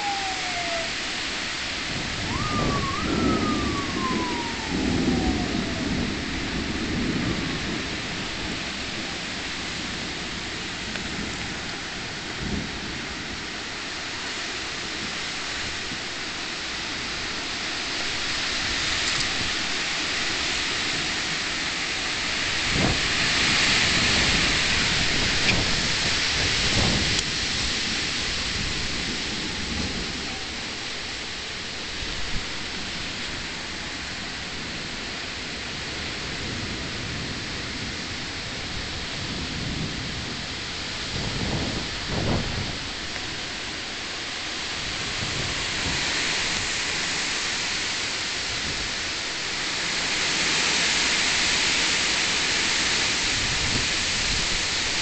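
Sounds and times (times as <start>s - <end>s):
steady rain: 0.0s - 55.0s
wind: 0.0s - 55.0s.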